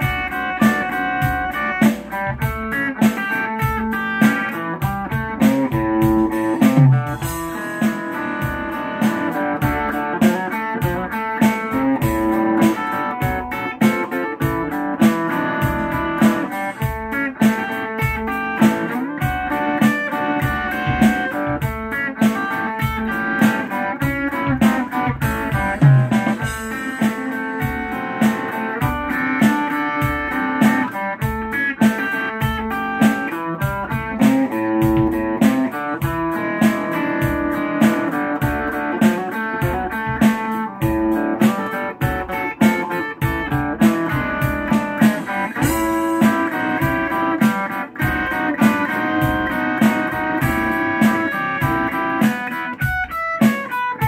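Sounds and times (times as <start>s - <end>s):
fingerpicked electric guitar blues: 0.0s - 54.0s.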